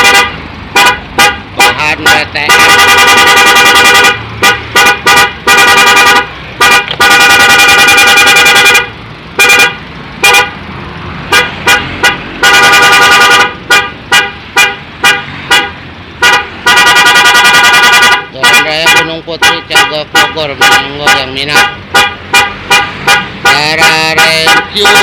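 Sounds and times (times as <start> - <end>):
novelty car horn: 0.0 - 10.6, 11.3 - 25.0.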